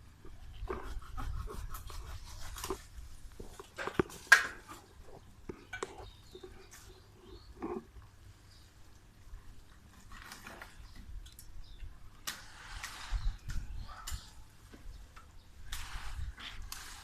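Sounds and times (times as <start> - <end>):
branches and leaves rustling: 0.0 - 17.0.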